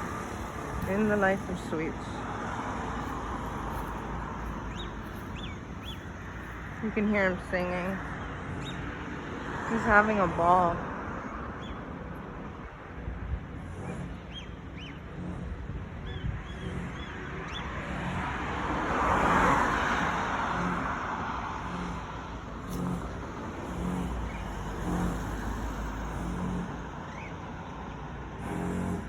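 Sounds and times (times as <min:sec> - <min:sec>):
car passing: 0:00.0 - 0:29.0.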